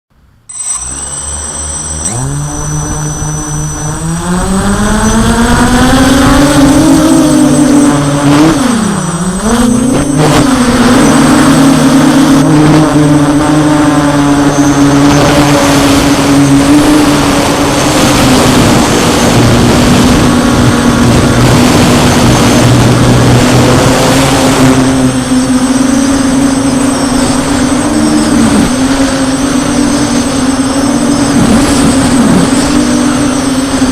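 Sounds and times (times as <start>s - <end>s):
drone rotors buzzing: 0.5s - 33.9s.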